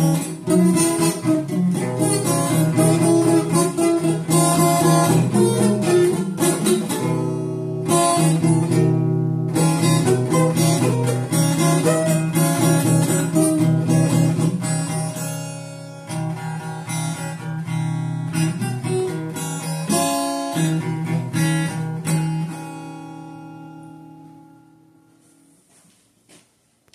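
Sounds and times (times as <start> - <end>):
acoustic guitar strumming: 0.0 - 25.6.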